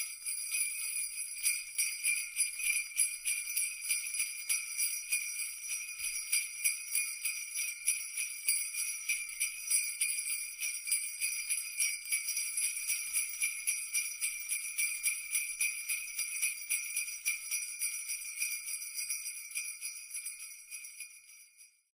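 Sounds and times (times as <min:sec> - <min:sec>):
sleigh bells jingling: 0:00.0 - 0:21.9.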